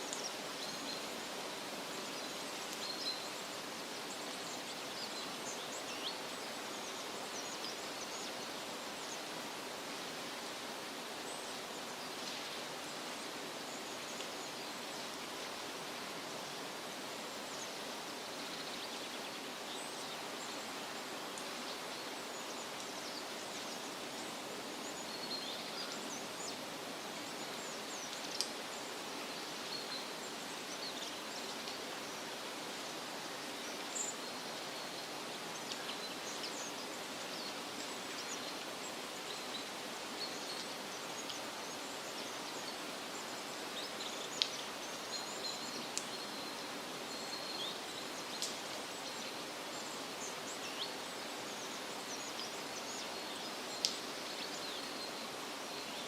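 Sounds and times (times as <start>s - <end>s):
wind rustling through trees: 0.0s - 56.0s.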